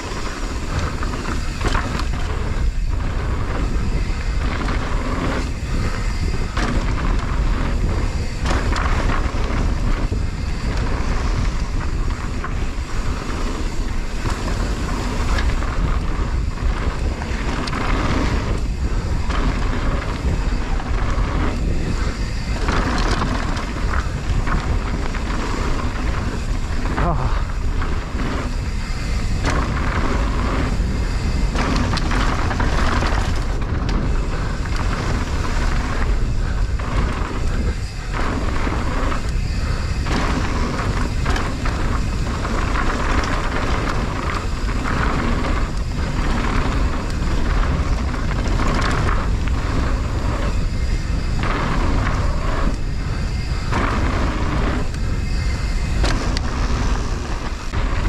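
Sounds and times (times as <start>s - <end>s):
bike rattling over dirt trail: 0.0s - 58.0s
wind rushing over microphone: 0.0s - 58.0s.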